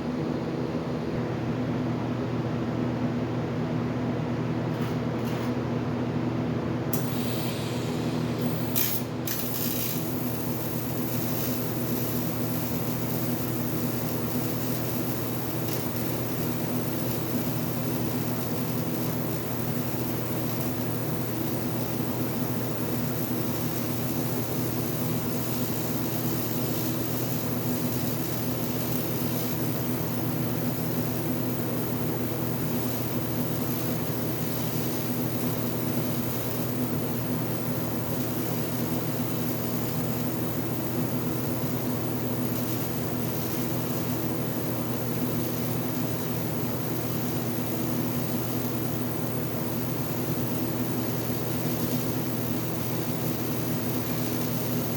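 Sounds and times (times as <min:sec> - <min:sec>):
welding arc buzzing hum with hiss: 0:04.5 - 0:05.8, 0:06.8 - 0:54.9.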